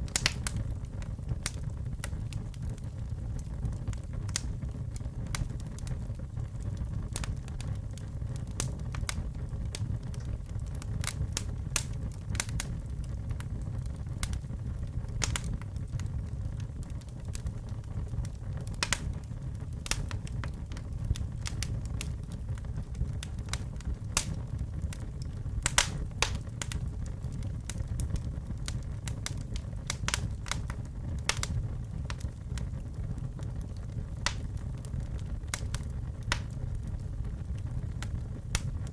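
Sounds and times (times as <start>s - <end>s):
fire crackling in fireplace: 0.0s - 38.9s.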